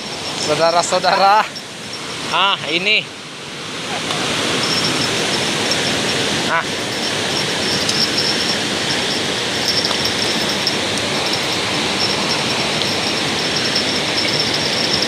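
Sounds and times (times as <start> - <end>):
fast river water rushing: 0.0 - 15.0.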